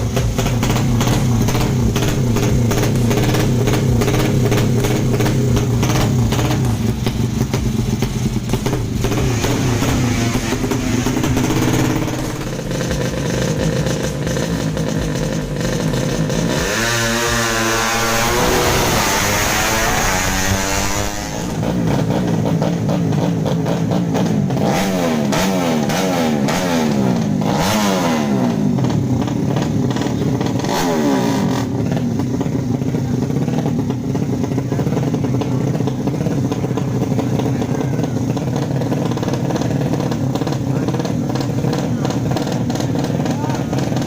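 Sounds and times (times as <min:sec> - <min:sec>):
motorcycle engines revving hard: 0:00.0 - 0:44.0.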